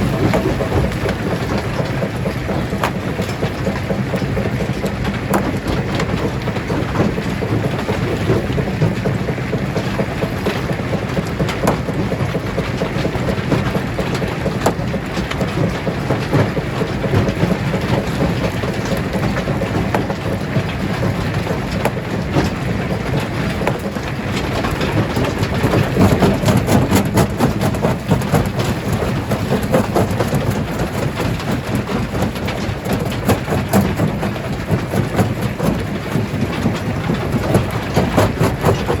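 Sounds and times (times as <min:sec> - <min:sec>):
rocks clattering and cracking: 0:00.0 - 0:39.0.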